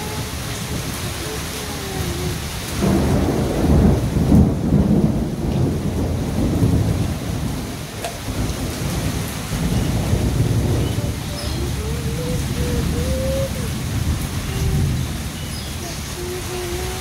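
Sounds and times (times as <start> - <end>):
heavy rain falling: 0.0 - 17.0
thunder rumbling: 0.0 - 17.0.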